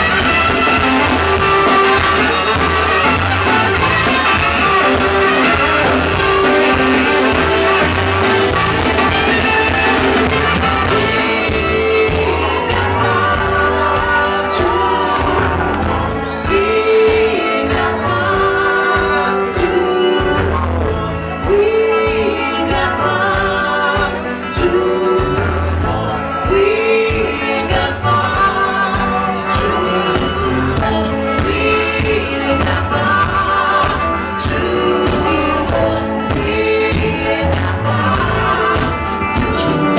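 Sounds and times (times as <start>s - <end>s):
funk band with horns playing: 0.0s - 39.9s
woman singing: 0.0s - 39.9s.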